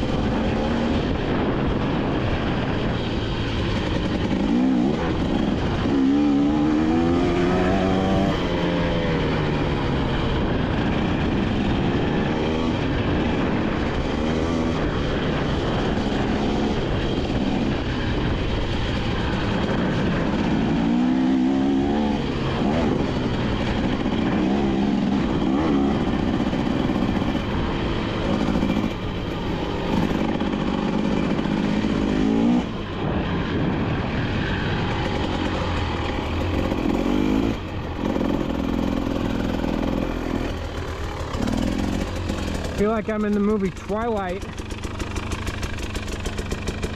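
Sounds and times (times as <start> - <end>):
dirt bike engine revving: 0.0 - 46.9
steady rushing noise: 0.0 - 46.9.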